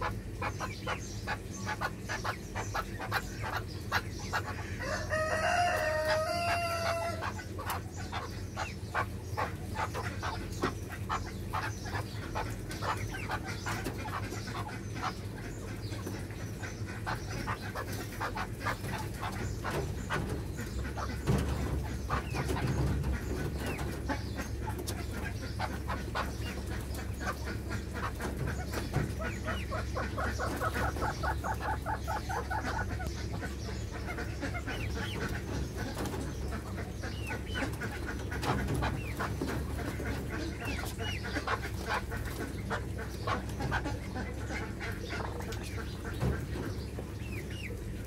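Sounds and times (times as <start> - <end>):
steady low hum: 0.0 - 48.0
young partridges chirping: 0.0 - 48.0.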